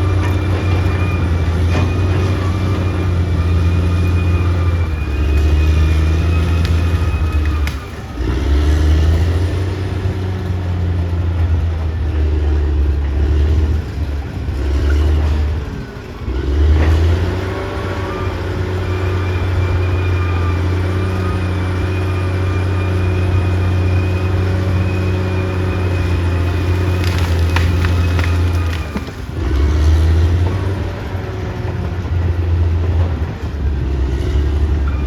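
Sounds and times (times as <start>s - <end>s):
bulldozer diesel engine working: 0.0s - 35.0s.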